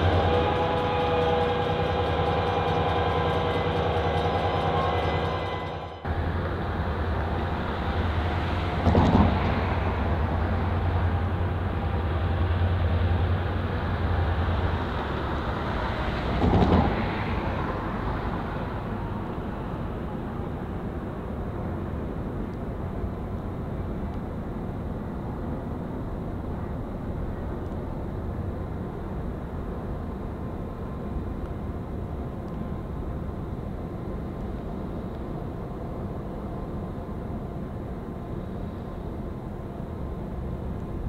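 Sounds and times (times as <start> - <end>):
diesel locomotive engine drone: 0.0 - 41.0.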